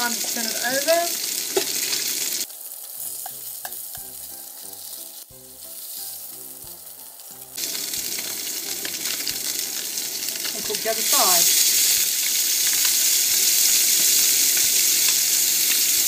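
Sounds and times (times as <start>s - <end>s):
fish fillets sizzling in oil: 0.0s - 16.0s.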